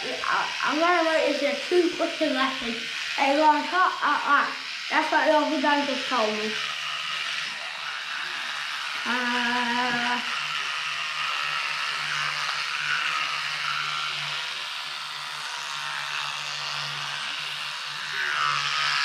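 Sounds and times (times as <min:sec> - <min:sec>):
toothbrush scrubbing teeth: 0:00.0 - 0:19.0.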